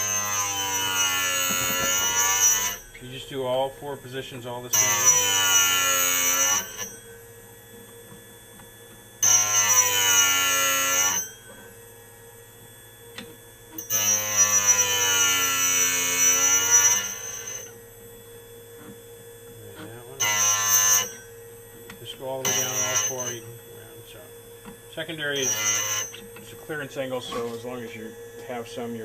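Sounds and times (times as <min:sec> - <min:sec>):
grinder humming: 0:00.0 - 0:29.0
high grinding whine: 0:00.0 - 0:29.0.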